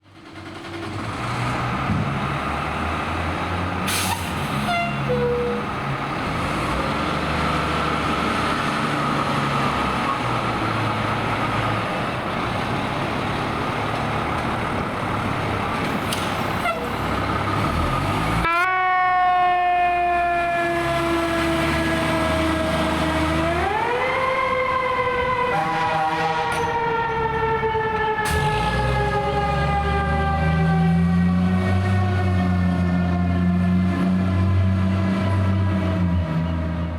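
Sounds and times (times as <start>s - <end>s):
truck engine rumble: 0.0s - 36.9s
fire engine siren: 1.2s - 36.9s.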